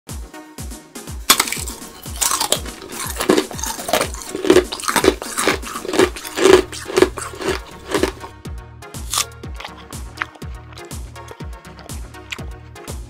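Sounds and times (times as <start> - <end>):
hard candy crunching: 1.3 - 8.3, 9.0 - 12.6.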